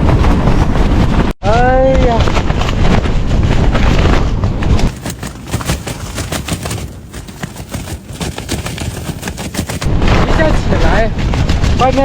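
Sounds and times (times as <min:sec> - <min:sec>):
strong wind buffeting microphone: 0:00.0 - 0:12.0
tent fabric flapping: 0:02.0 - 0:12.0.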